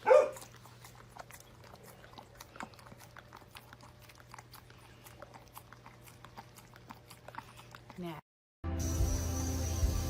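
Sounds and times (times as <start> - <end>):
dog chewing and licking: 0.0 - 8.2.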